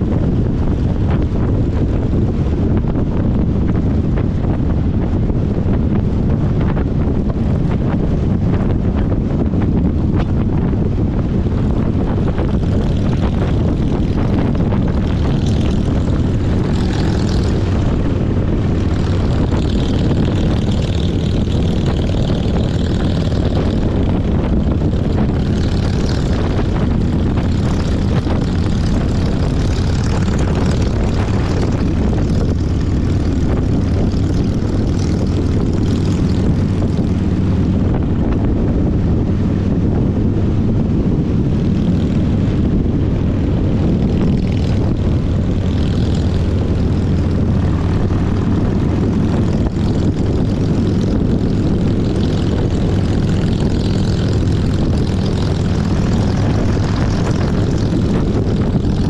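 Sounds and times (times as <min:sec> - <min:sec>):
motorcycle engine droning: 0:00.0 - 0:59.0
wind noise on microphone: 0:00.0 - 0:59.0.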